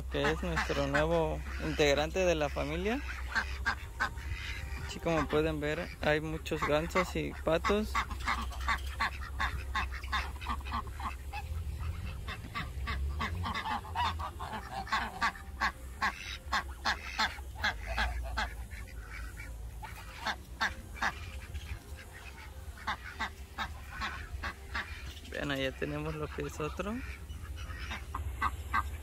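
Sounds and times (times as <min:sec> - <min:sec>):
ducks quacking: 0:00.0 - 0:29.0
geese honking: 0:00.0 - 0:29.0.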